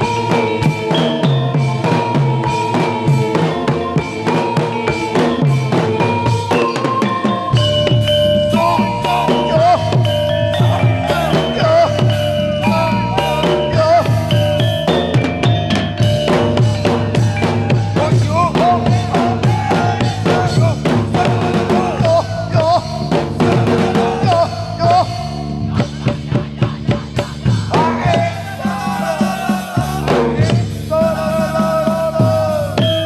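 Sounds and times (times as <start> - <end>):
drum beat: 0.0 - 33.0.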